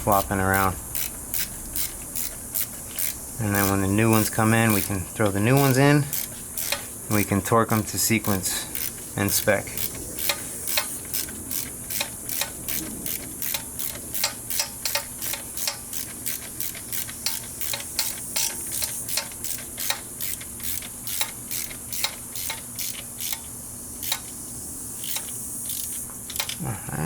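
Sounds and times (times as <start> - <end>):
hand ratchet clicking: 0.0 - 24.4, 25.0 - 26.6.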